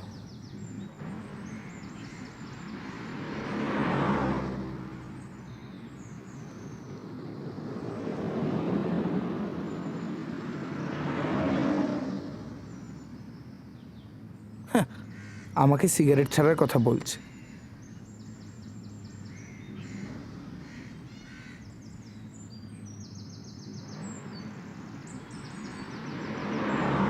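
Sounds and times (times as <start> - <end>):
vehicles passing: 0.0 - 27.0.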